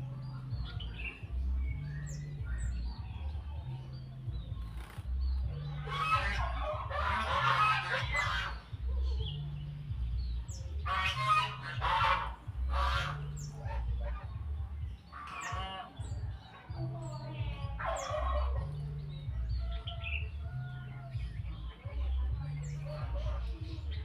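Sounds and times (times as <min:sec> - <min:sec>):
bird harsh chattering calls: 0:00.0 - 0:24.0.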